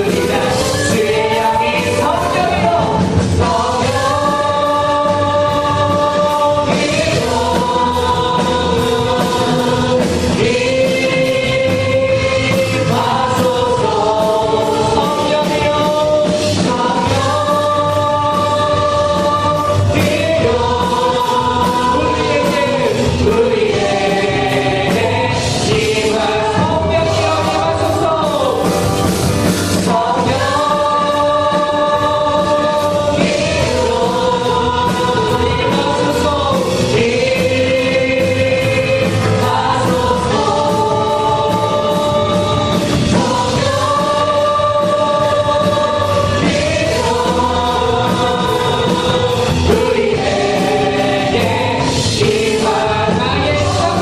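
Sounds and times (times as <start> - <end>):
band accompaniment with beat: 0.0 - 54.0
group singing worship song: 0.0 - 54.0.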